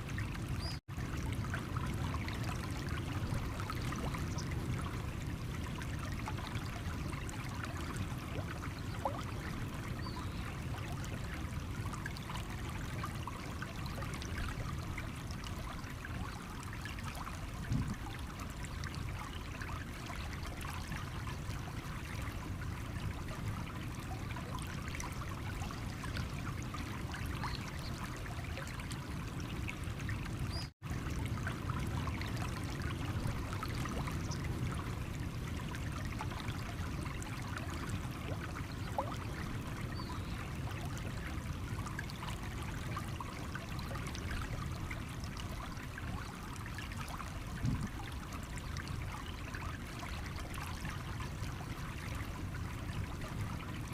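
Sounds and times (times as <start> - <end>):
stream trickling over stones: 0.0 - 53.9.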